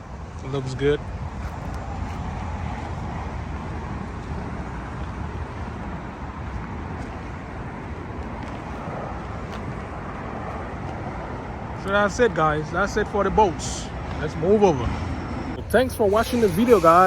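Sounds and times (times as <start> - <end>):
highway traffic rushing: 0.0 - 17.0.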